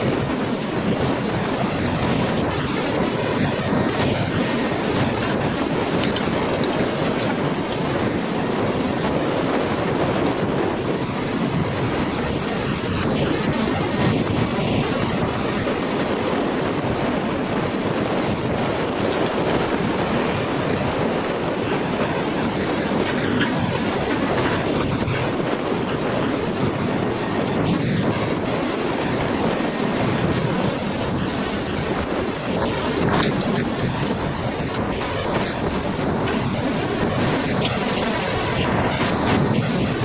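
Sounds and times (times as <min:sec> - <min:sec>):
hydraulic crane machine noise: 0:00.0 - 0:40.0.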